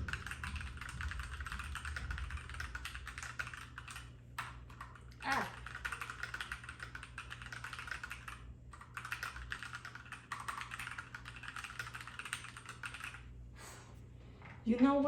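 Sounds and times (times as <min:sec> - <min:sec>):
mechanical keyboard typing: 0:00.0 - 0:13.3.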